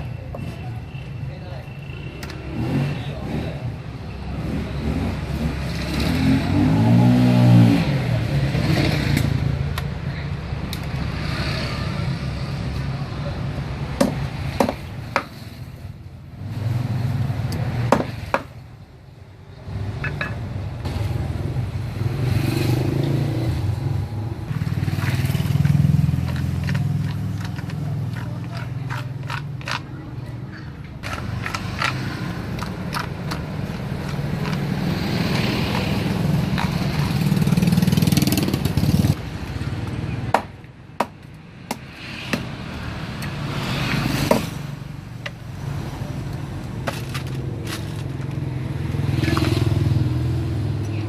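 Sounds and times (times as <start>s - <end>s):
vehicle engine: 0.0s - 40.4s, 41.2s - 51.0s.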